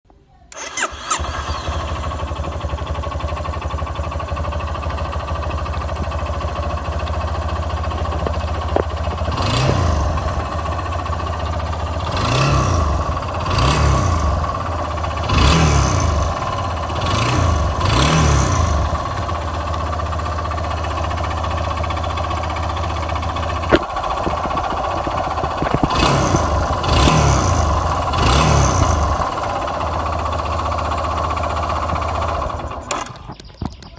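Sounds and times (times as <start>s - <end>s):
motorcycle engine idling: 0.5s - 33.9s
unidentified engine noise: 0.5s - 33.9s.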